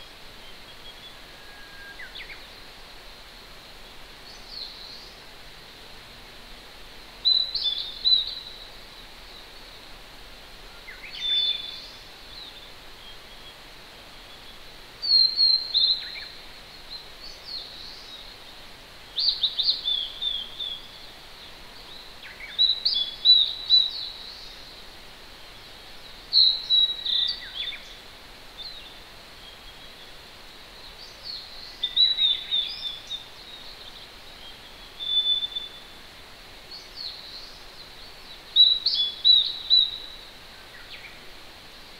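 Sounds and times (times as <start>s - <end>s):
distant stream hissing: 0.0s - 41.9s
songbird singing: 0.0s - 41.9s.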